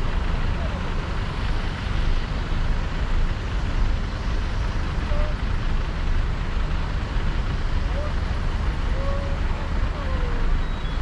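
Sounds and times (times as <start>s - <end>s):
car tyres and engine rumble: 0.0s - 11.0s
surrounding traffic: 0.0s - 11.0s.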